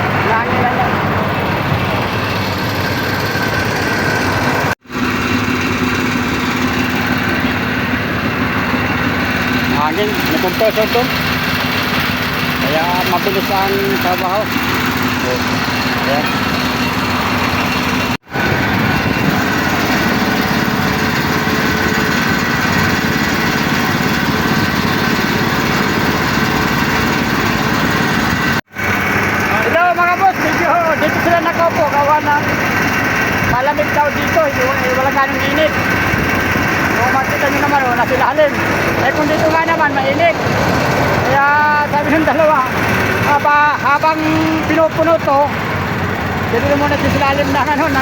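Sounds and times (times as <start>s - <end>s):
air compressor running: 0.0s - 48.0s.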